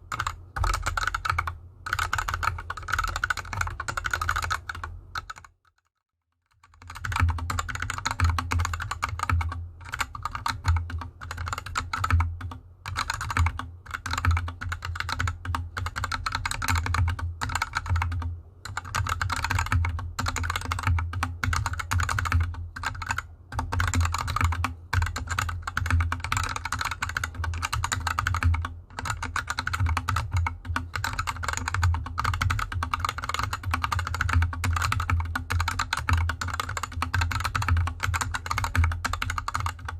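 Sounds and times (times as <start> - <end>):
rapid mechanical keyboard typing: 0.0 - 39.9.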